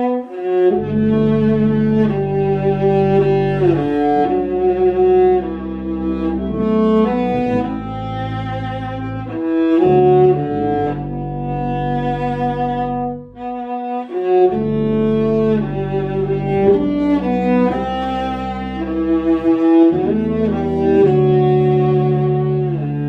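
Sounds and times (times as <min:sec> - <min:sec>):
viola playing held notes: 0:00.0 - 0:23.0.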